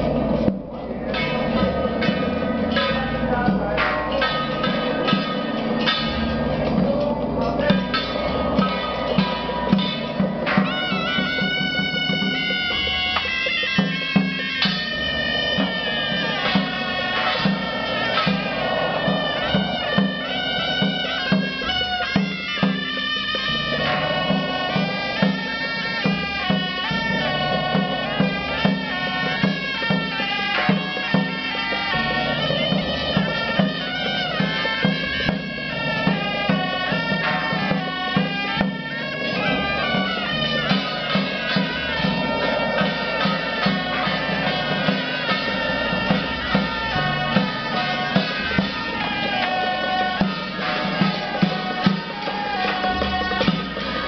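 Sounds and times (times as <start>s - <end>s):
percussion beat: 0.0s - 54.0s
wind band playing a melody: 0.0s - 54.0s.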